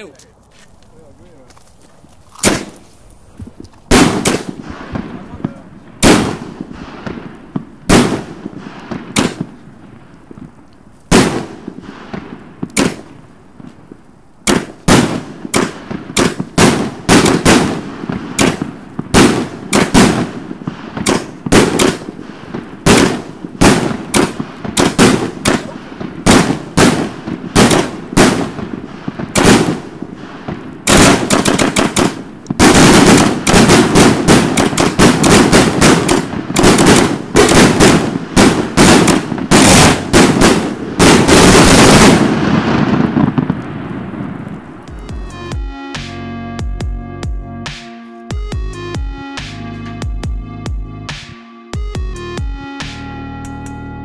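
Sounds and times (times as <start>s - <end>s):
fireworks bangs: 0.0s - 47.0s.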